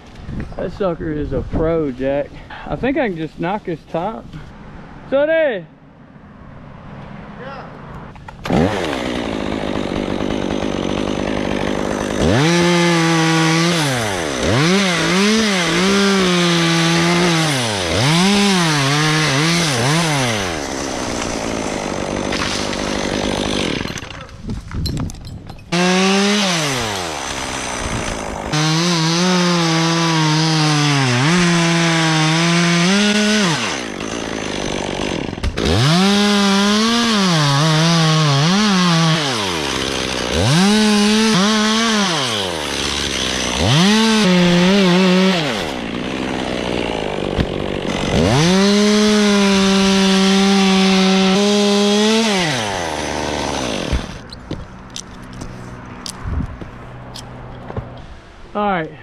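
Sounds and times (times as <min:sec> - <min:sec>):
chainsaw cutting wood: 0:08.1 - 0:58.0.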